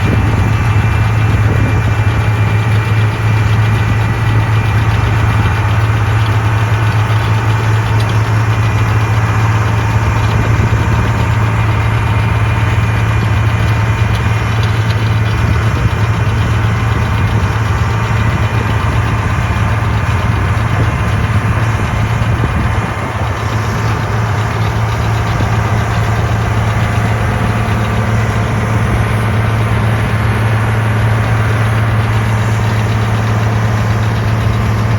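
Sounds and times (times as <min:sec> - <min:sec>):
round baler baling hay: 0:00.0 - 0:34.9
tractor diesel engine running: 0:00.0 - 0:34.9.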